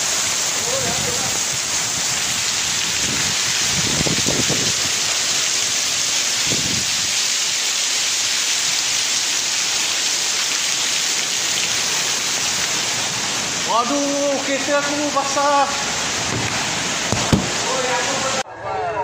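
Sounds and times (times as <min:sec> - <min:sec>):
heavy rain pouring: 0:00.0 - 0:18.5.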